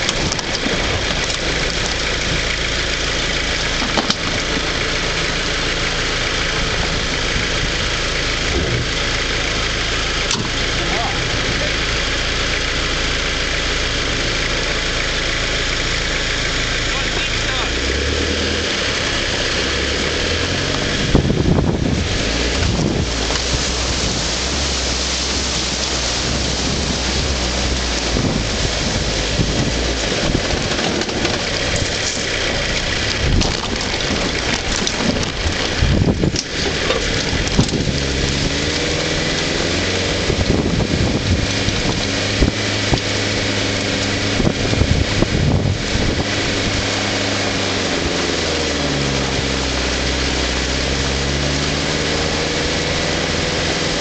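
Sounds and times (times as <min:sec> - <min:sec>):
vehicle knocks over ruts: 0:00.0 - 0:15.1, 0:16.5 - 0:54.0
wind and tyre rushing noise: 0:00.0 - 0:16.6, 0:17.7 - 0:54.0
off-road vehicle engine: 0:00.0 - 0:54.0.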